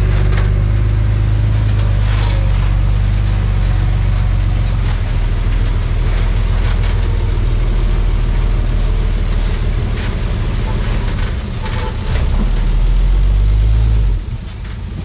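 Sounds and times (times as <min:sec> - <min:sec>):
faint clanks: 0:00.0 - 0:12.9
bulldozer diesel engine running: 0:00.0 - 0:15.0.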